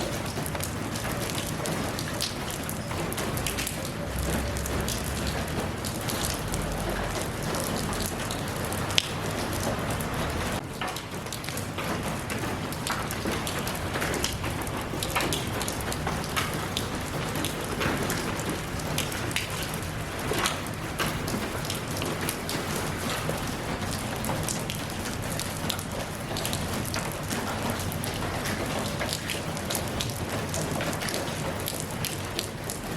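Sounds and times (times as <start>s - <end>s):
raindrops ticking close by: 0.0s - 32.9s
steady rain falling: 0.0s - 32.9s.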